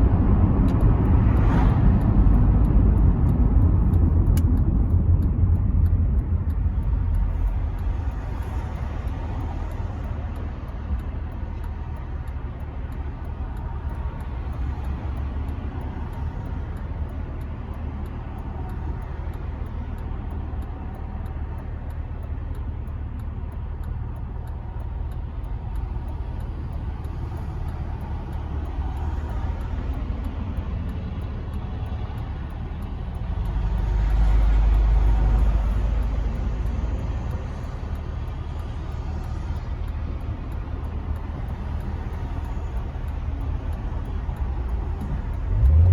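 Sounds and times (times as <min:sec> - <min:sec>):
car engine hum: 0:00.0 - 0:45.9.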